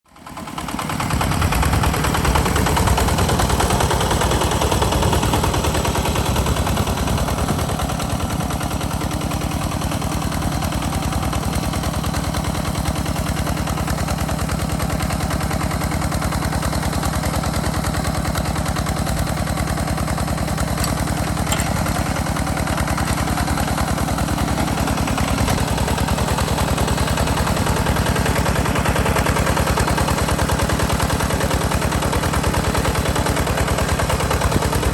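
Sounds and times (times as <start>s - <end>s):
diesel engine chugging: 0.1s - 34.9s.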